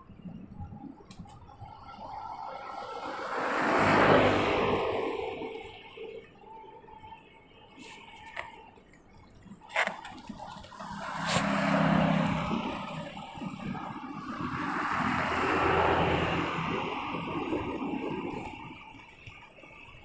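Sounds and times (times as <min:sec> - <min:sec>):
wind rushing over a microphone: 0:00.0 - 0:07.2, 0:08.6 - 0:20.0.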